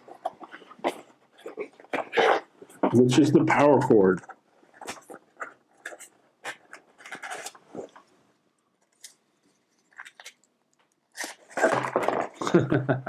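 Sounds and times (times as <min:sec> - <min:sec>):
packaging rustling: 0:00.0 - 0:03.2, 0:04.2 - 0:08.1, 0:08.8 - 0:12.6.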